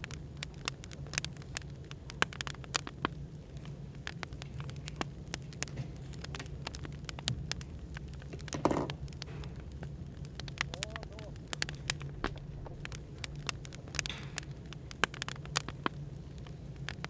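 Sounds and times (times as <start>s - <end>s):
low background hum: 0.0s - 17.0s
wood fire crackling and popping: 0.0s - 17.0s.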